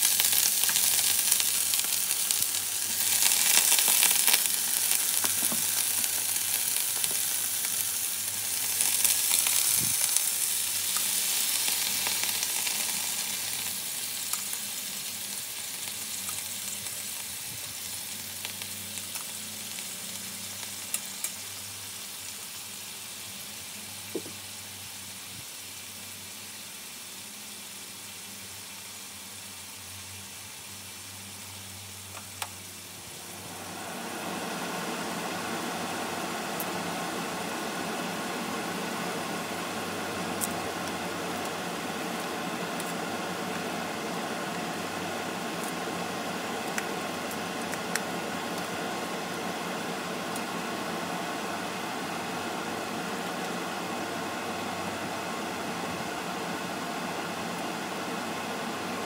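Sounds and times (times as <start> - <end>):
shrimp sizzling in a pan: 0.0 - 59.0.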